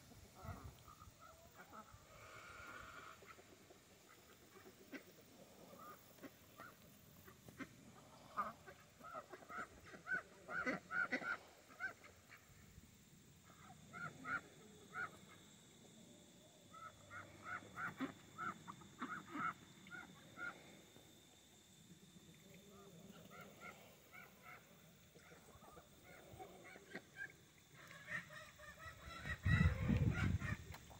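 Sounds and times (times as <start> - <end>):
ducks quacking: 0.3 - 12.5, 13.4 - 15.4, 16.7 - 20.7, 22.7 - 30.9.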